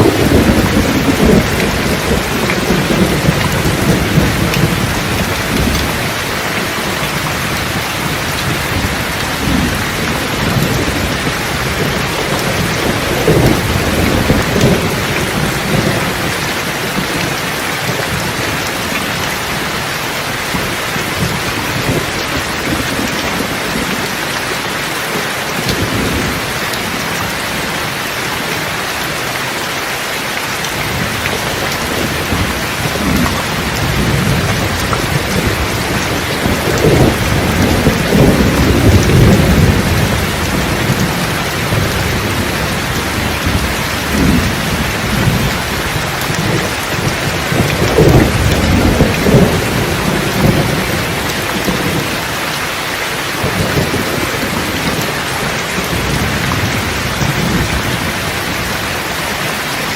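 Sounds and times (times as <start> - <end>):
thunder rumbling: 0.0 - 29.4, 30.6 - 59.7
steady rain: 0.0 - 59.9.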